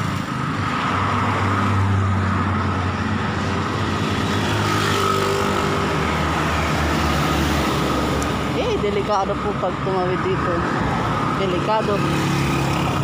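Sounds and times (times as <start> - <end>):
motorcycle passing: 0.0 - 13.0
traffic engines humming: 0.0 - 13.0.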